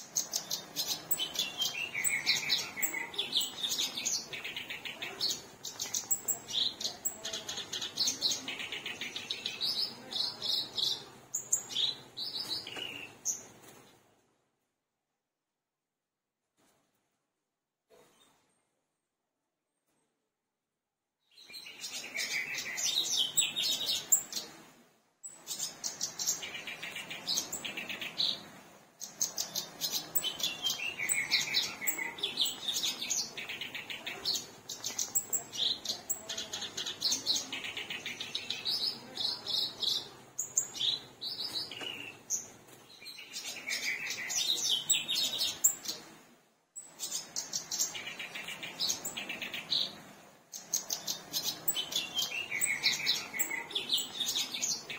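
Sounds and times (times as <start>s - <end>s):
warbler singing chattering song: 0.0s - 13.6s, 21.2s - 46.2s, 46.8s - 54.9s.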